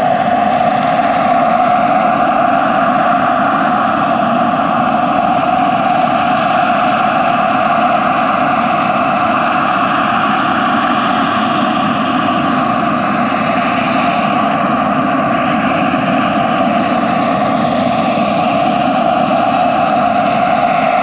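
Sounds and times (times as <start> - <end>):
model helicopter hovering: 0.0 - 21.0
turbine whine: 0.0 - 21.0.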